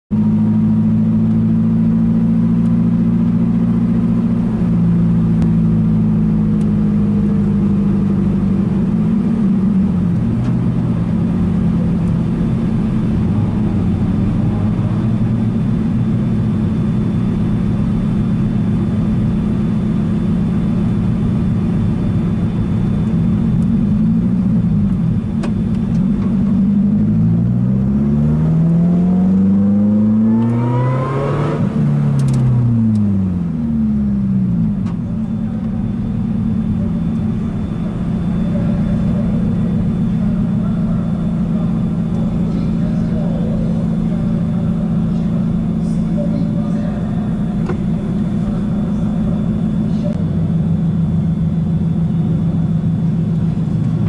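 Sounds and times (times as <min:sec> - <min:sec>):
race car engine at low revs: 0:00.1 - 0:54.0.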